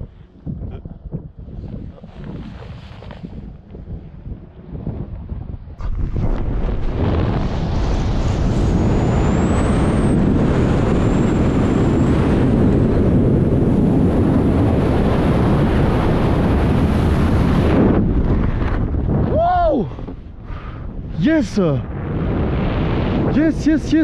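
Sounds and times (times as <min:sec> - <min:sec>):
rush of air over microphone: 0:00.0 - 0:04.3, 0:05.7 - 0:23.5.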